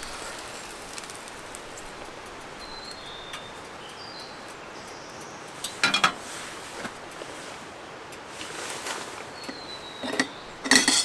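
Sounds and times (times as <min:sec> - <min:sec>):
wind through forest: 0:00.0 - 0:11.0.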